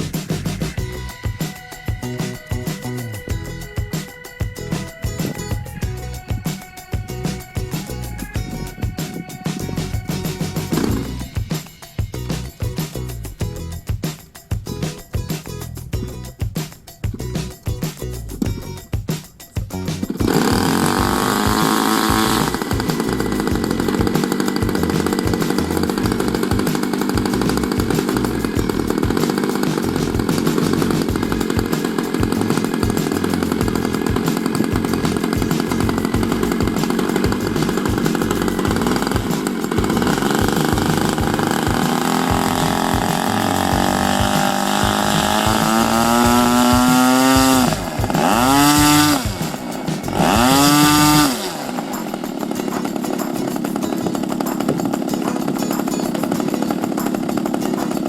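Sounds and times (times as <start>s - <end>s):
model plane engine running: 0.0s - 13.4s, 19.8s - 58.0s.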